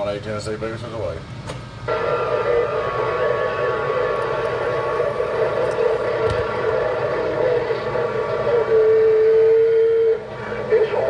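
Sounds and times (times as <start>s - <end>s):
radio static: 1.9s - 11.0s
siren-like radio tone: 1.9s - 11.0s.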